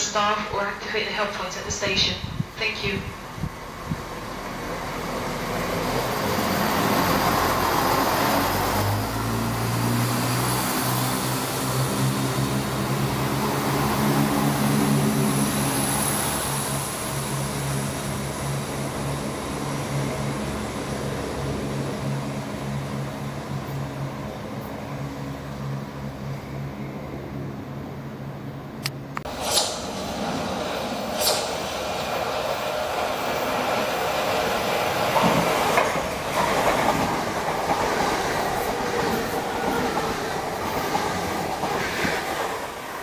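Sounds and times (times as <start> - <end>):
train wheels rushing on rail: 0.8 - 26.4, 29.2 - 43.0.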